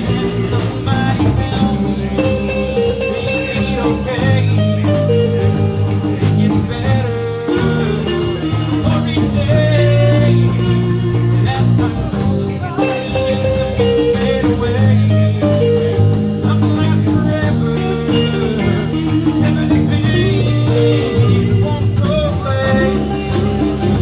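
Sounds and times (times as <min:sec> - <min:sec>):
live blues band playing: 0:00.0 - 0:24.0.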